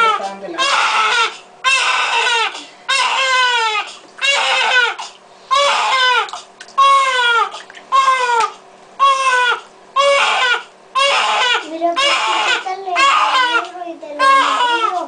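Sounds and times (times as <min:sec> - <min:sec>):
newborn baby crying: 0:00.0 - 0:15.0.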